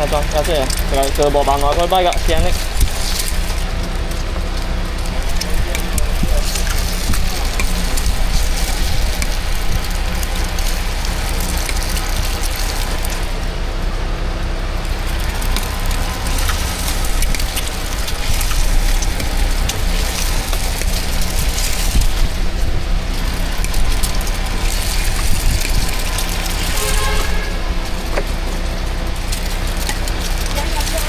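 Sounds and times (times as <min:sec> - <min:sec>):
crackling hiss: 0:00.0 - 0:31.0
street low rumble: 0:00.0 - 0:31.0.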